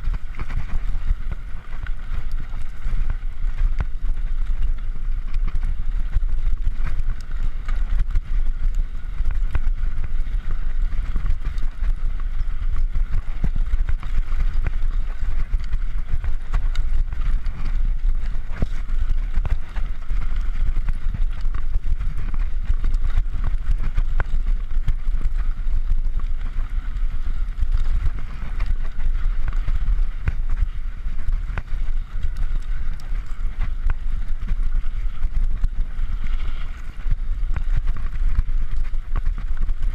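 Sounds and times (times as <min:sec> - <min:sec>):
bike rattles and knocks: 0:00.0 - 0:39.9
bike tyres rolling on dirt: 0:00.0 - 0:39.9
wind on camera microphone: 0:00.0 - 0:39.9.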